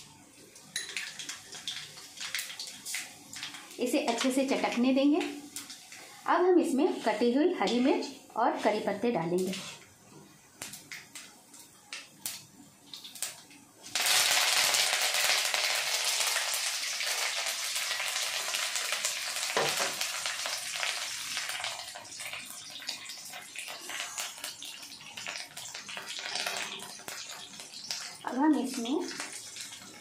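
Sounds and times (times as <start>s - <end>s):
loud sizzle of vegetables in oil: 0.0s - 9.8s, 10.4s - 30.0s
mustard seeds crackling in oil: 0.6s - 6.0s, 10.6s - 30.0s.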